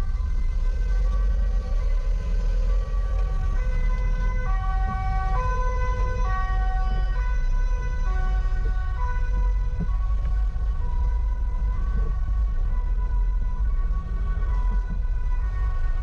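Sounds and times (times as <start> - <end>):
low vehicle rumble: 0.0 - 16.0
two-tone emergency siren: 0.0 - 16.0.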